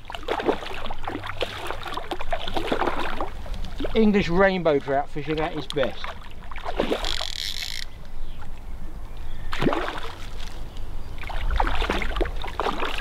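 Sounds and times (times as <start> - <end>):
fish thrashing and splashing: 0.0 - 7.9, 9.5 - 13.0.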